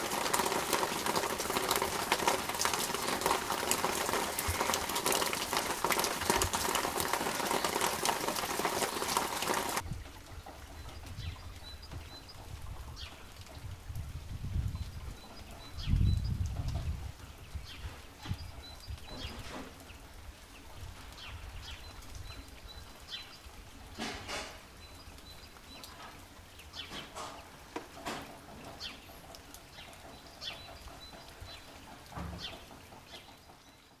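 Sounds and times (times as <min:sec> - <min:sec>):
birds chirping: 0:00.1 - 0:13.6, 0:17.4 - 0:23.6, 0:24.7 - 0:34.0.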